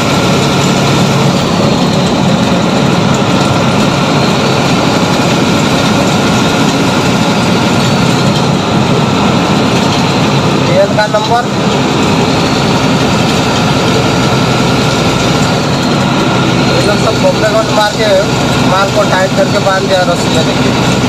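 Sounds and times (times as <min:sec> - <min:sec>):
truck engine and road noise: 0:00.0 - 0:21.0.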